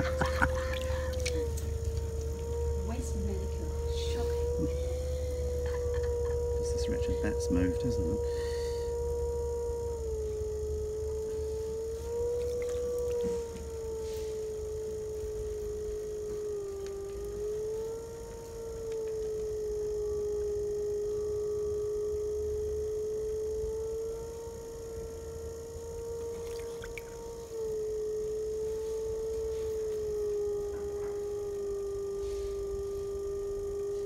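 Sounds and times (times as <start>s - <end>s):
low hum: 0.0s - 34.0s
potter's wheel motor whining: 0.0s - 34.0s.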